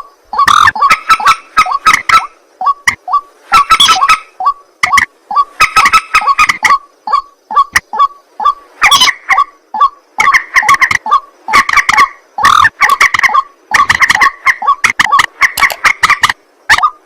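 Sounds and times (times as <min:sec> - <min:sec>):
rail bird harsh croaking calls: 0:00.0 - 0:17.0.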